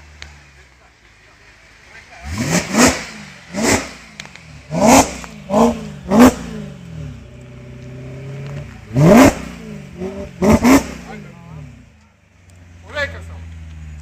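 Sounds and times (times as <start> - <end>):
car engine idling: 0.0 - 14.0
car engine revving: 0.0 - 14.0.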